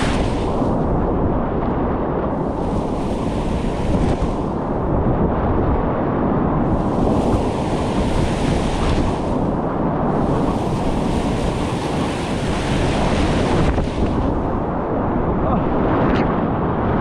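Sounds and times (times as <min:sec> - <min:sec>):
muffled whitewater rapids rushing: 0:00.0 - 0:17.0.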